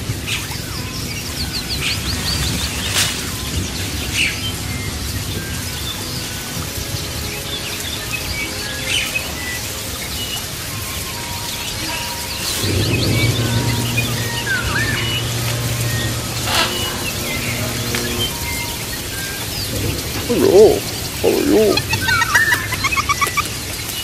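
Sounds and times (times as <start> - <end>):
birds chirping and calling: 0.1 - 6.3, 8.2 - 24.0
steady hiss: 1.0 - 24.0.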